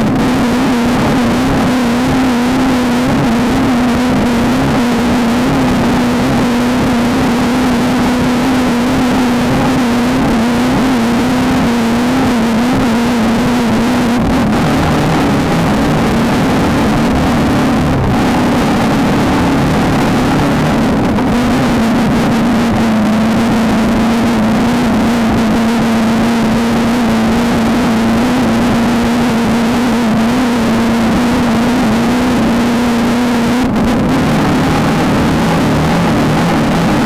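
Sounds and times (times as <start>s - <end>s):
car engine running hard: 0.0s - 37.0s.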